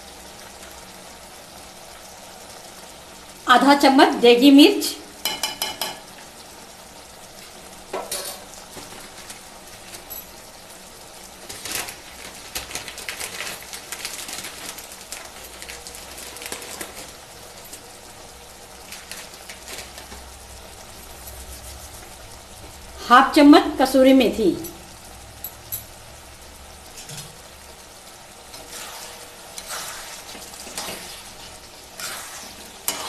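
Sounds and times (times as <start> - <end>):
curry bubbling and sizzling: 0.0 - 33.0.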